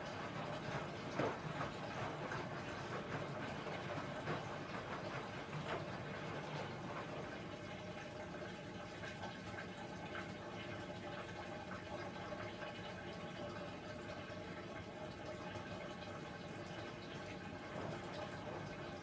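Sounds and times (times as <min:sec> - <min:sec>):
washing machine drum slowing: 0:00.0 - 0:19.0
water trickling and dripping: 0:00.0 - 0:19.0.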